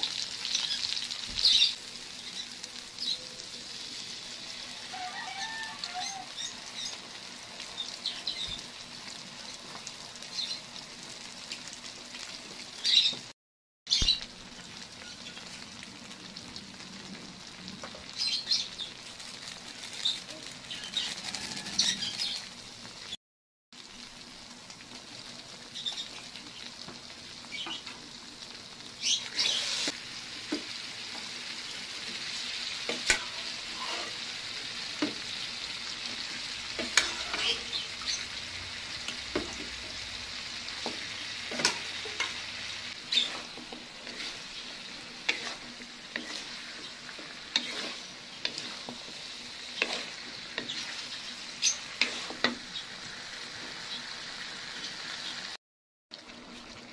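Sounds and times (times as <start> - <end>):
stew sizzling in a pan: 0.0 - 23.2, 23.8 - 56.9.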